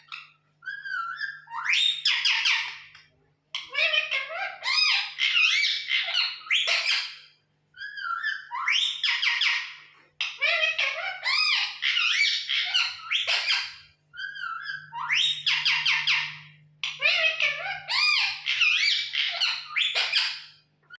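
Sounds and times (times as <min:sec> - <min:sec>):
parrot whistled chirps and squawks: 0:00.0 - 0:21.0.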